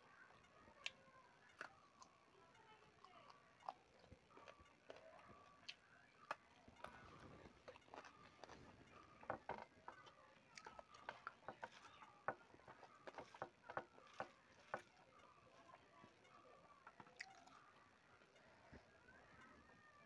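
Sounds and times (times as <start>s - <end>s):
fingers mixing rice on metal plate: 3.2s - 19.5s.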